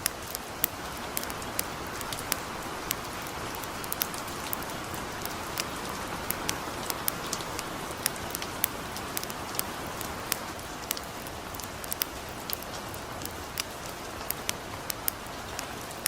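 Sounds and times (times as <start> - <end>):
campfire crackling and popping: 0.0 - 16.0
light rain: 0.0 - 16.0.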